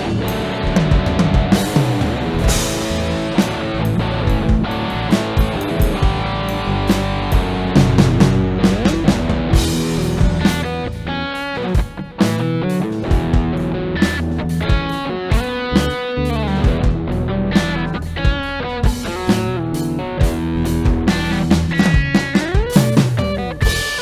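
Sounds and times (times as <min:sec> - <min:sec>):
drum kit: 0:00.0 - 0:24.0
electric bass: 0:00.0 - 0:24.0
electric guitar: 0:00.0 - 0:24.0.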